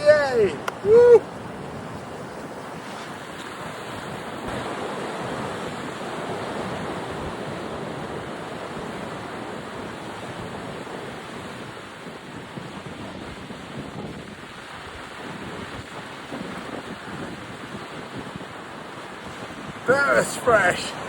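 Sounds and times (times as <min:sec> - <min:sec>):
sea waves breaking: 0:00.0 - 0:21.0
wind buffeting microphone: 0:00.0 - 0:21.0.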